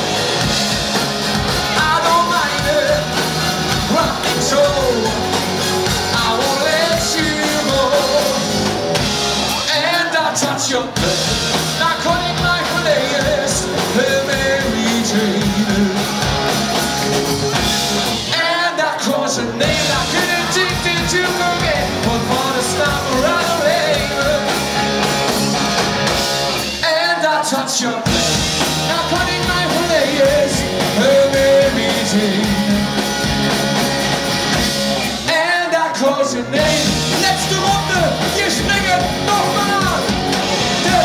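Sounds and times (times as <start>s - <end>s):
live band playing: 0.0s - 41.0s
lead singer singing: 1.3s - 16.5s, 18.2s - 25.1s, 26.7s - 33.2s, 35.0s - 41.0s.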